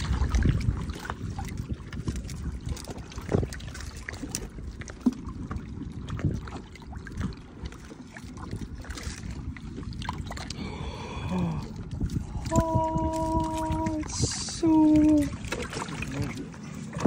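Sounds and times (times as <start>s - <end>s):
water sloshing and splashing: 0.0s - 17.0s
wind rumble on microphone: 0.0s - 17.0s.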